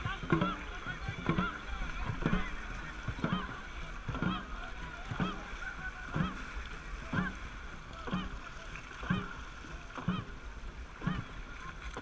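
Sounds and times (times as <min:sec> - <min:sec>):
paddles splashing water: 0:00.0 - 0:12.0
wind: 0:00.0 - 0:12.0.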